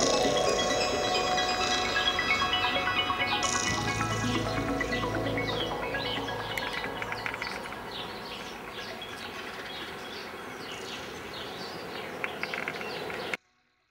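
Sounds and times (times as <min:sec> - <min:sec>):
small birds chirping: 0:00.0 - 0:13.4
steady outdoor hiss: 0:00.0 - 0:13.4.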